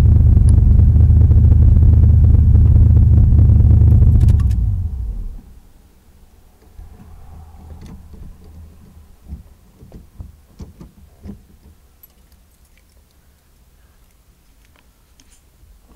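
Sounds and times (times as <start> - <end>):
faint low hum: 0.0 - 15.9.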